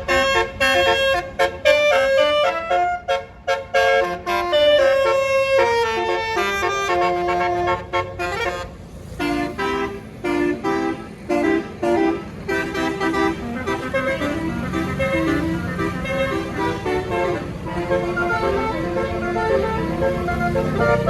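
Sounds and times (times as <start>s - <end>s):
bus tuned horns playing a tune: 0.0s - 21.0s.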